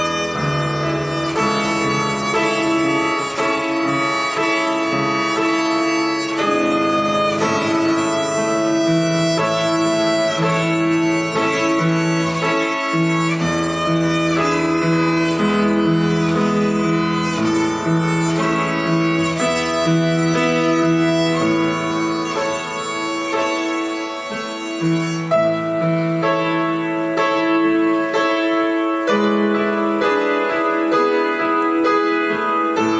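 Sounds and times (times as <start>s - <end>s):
violin melody: 0.0s - 32.9s.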